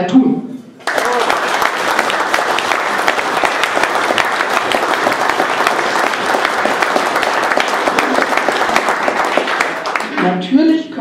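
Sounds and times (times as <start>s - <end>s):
audience applauding: 0.8s - 10.3s.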